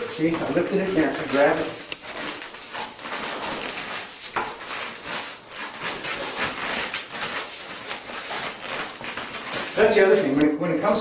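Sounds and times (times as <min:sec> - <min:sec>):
feet scuffing on a mat: 0:00.0 - 0:10.4.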